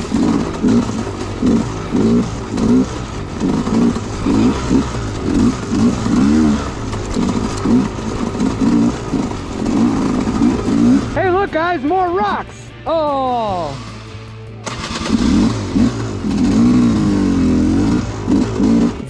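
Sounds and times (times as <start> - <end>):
dirt bike engine revving: 0.0 - 11.5, 13.5 - 19.0.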